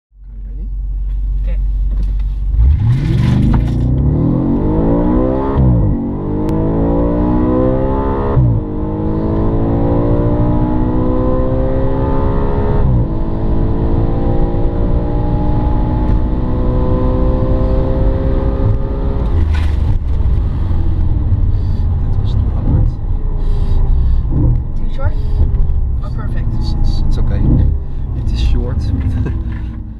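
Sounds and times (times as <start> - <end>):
car engine revving under acceleration: 1.8 - 29.9.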